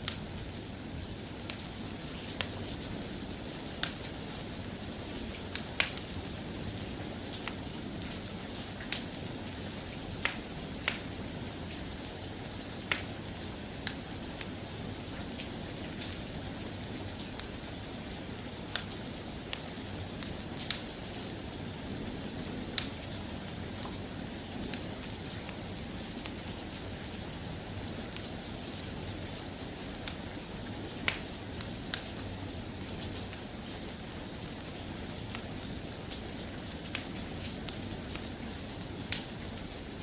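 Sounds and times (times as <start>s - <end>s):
soft rain falling: 0.0s - 40.0s.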